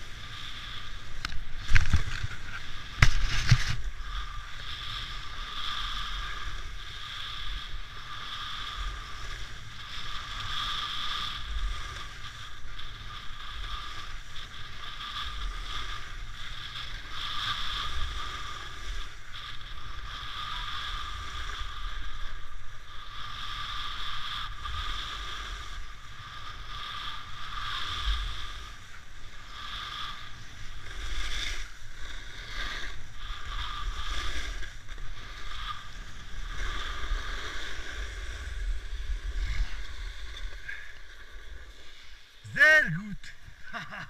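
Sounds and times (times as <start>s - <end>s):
wind rumble on microphone: 0.0s - 41.8s
skis scraping on snow: 0.0s - 42.4s.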